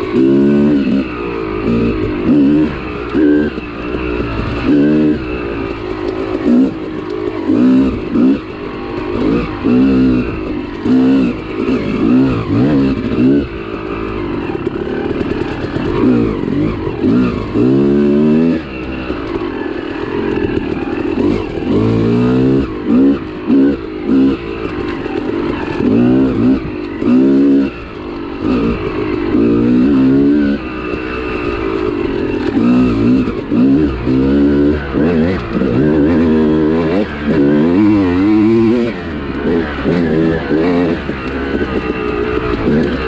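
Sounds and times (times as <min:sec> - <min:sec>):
two-stroke motorcycle engine revving: 0:00.0 - 0:43.0.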